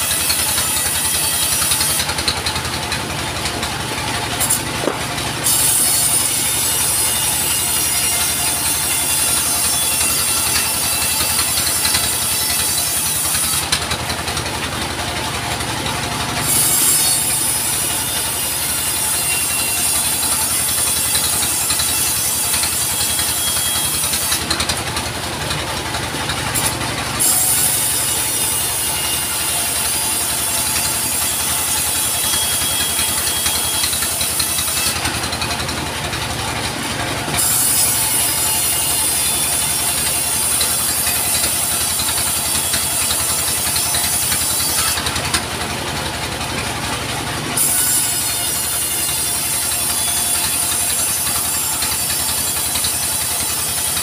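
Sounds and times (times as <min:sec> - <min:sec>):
engine running: 0:00.0 - 0:54.0
sawmill saw cutting logs: 0:00.0 - 0:54.0.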